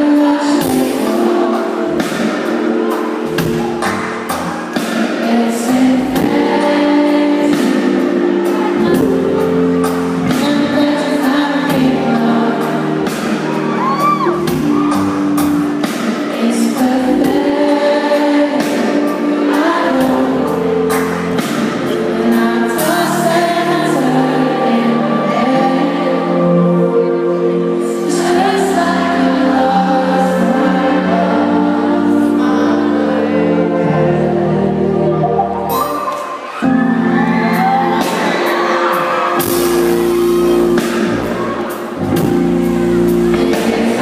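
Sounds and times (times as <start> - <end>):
person singing lead vocal: 0.0 - 44.0
sustained keyboard chords: 0.0 - 44.0.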